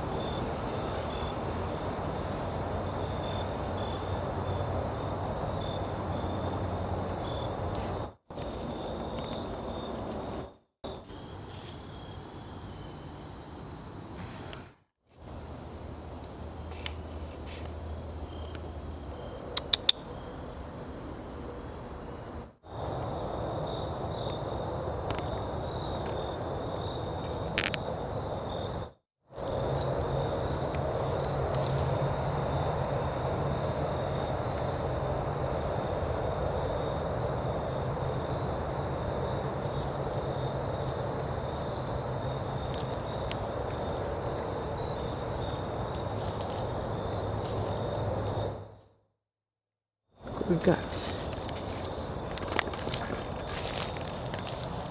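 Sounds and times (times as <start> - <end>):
insect chorus trilling: 0.0 - 14.0, 22.7 - 48.8, 50.2 - 54.9.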